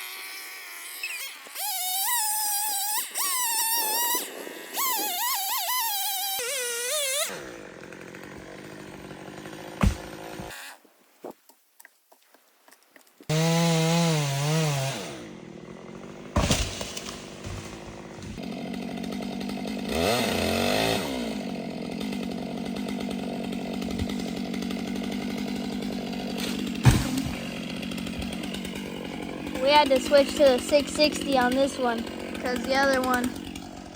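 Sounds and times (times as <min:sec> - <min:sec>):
chainsaw cutting wood: 0:00.0 - 0:10.9, 0:13.3 - 0:33.9.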